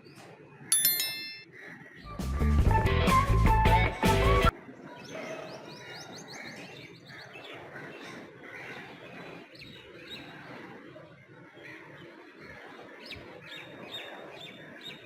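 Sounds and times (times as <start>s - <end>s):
outdoor background noise: 0.0s - 2.1s, 4.5s - 15.0s.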